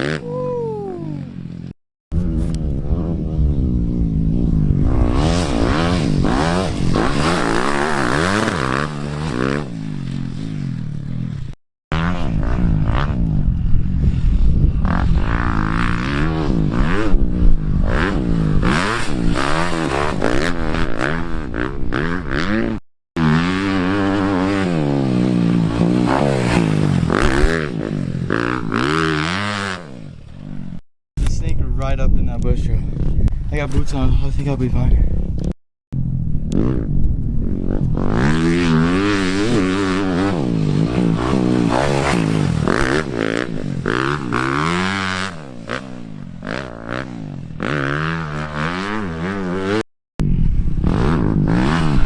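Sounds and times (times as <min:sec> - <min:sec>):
dirt bike engines revving: 0:00.0 - 0:31.4, 0:32.6 - 0:52.0.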